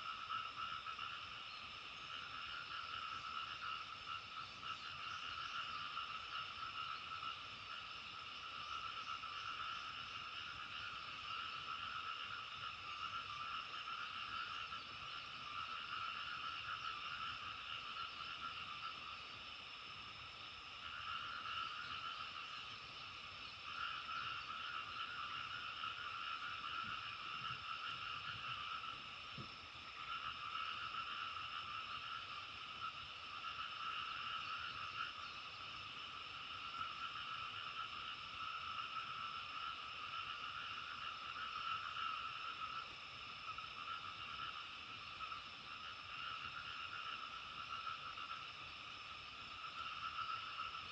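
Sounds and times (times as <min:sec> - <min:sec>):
chorus of frogs calling: 0:00.0 - 0:50.9.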